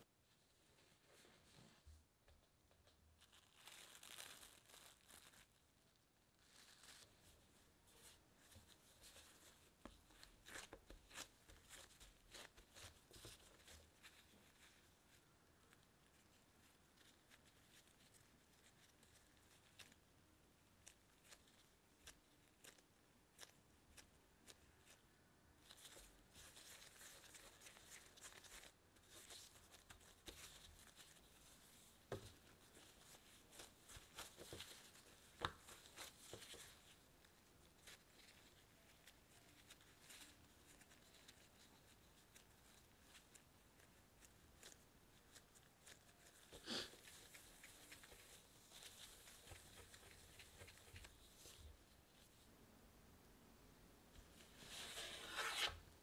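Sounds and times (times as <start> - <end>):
gloves crinkling: 0.2 - 52.5.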